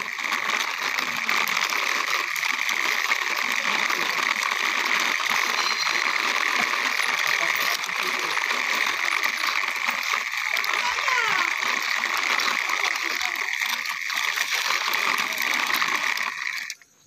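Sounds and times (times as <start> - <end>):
toy wheels grinding rattle: 0.0 - 17.0.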